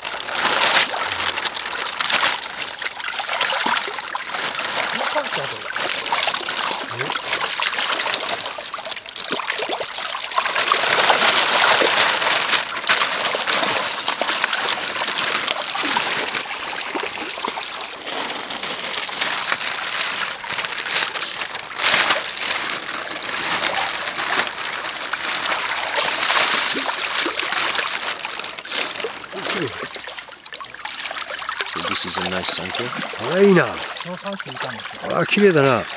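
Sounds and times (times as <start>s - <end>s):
water splashing and sloshing: 0.0s - 35.9s.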